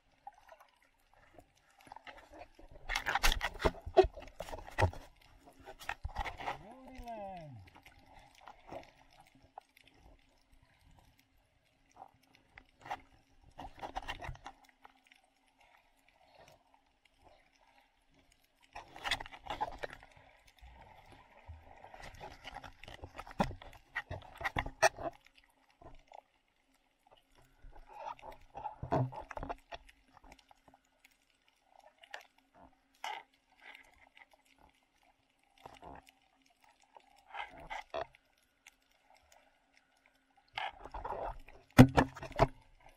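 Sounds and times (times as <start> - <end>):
rushing water underwater: 0.0 - 42.9.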